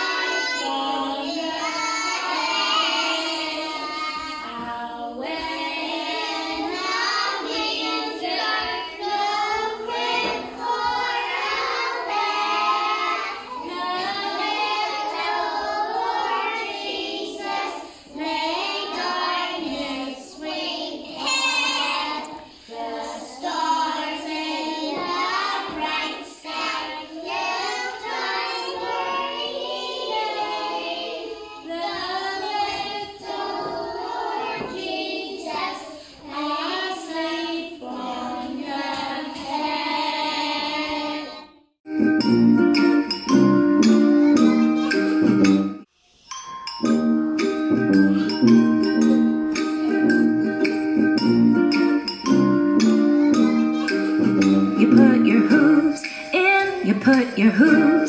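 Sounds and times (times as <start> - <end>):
children singing together: 0.0 - 41.6, 43.8 - 45.3, 52.0 - 58.0.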